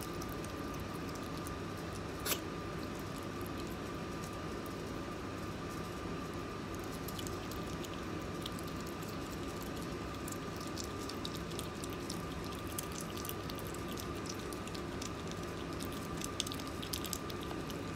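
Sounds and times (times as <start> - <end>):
otter eating with wet mouth clicks: 0.0 - 6.0, 6.6 - 17.9
steady room hum: 0.0 - 17.9.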